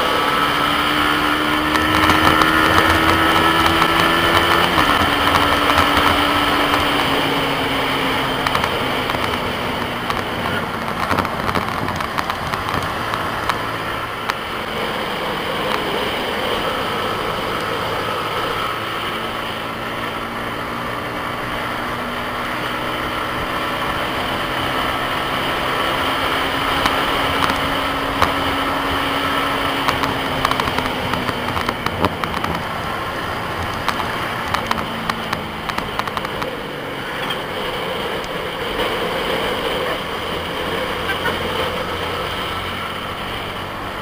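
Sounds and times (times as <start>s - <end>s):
motorcycle engine at speed: 0.0s - 44.0s
wind and road noise: 0.0s - 44.0s.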